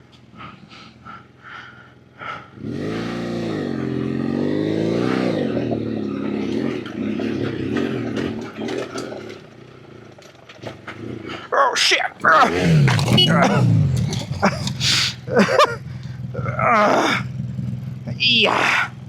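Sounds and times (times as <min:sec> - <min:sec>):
motorcycle engine revving: 0:01.2 - 0:19.0.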